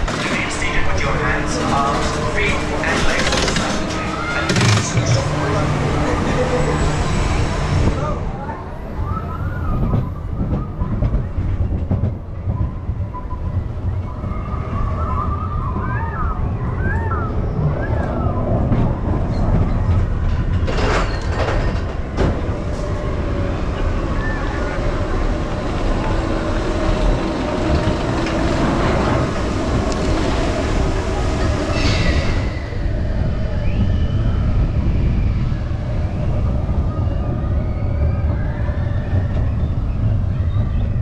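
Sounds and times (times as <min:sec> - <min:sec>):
roller coaster wheels rumbling: 0:00.0 - 0:41.0.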